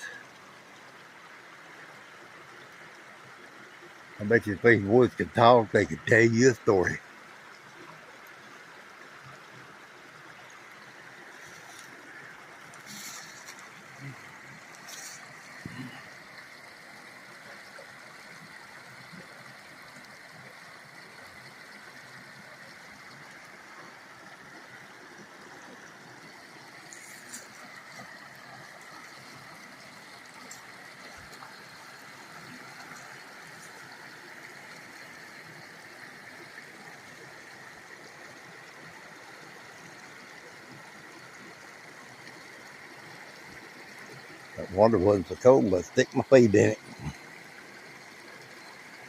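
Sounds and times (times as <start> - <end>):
creek water rushing: 0.0 - 49.0.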